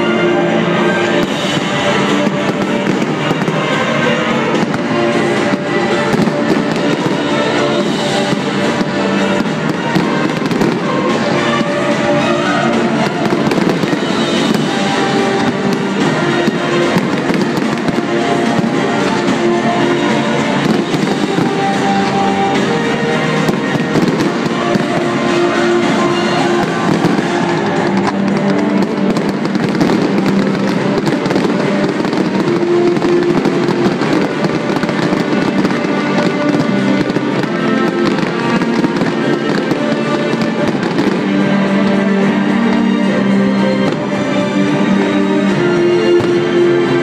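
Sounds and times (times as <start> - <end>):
fireworks bangs and crackling: 0.0 - 47.0
music: 0.0 - 47.0.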